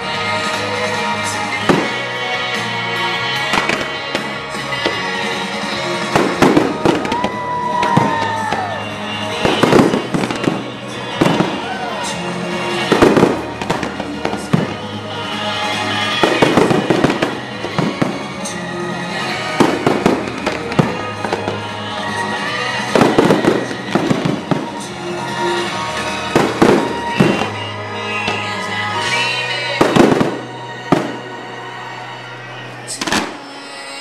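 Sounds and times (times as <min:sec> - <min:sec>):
fireworks bursting with loud bangs: 0:00.0 - 0:31.8, 0:32.9 - 0:33.7
music soundtrack: 0:00.0 - 0:34.0.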